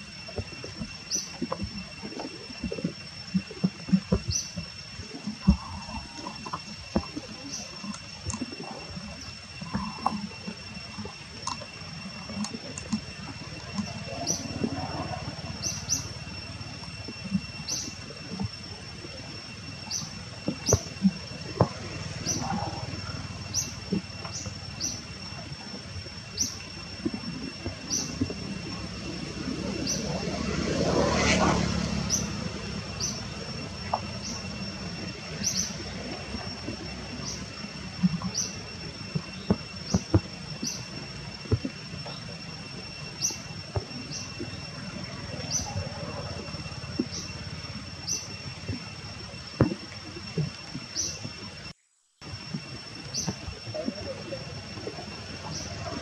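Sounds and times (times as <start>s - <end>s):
distant engine noise: 0.0s - 56.0s
high insect drone: 0.0s - 56.0s.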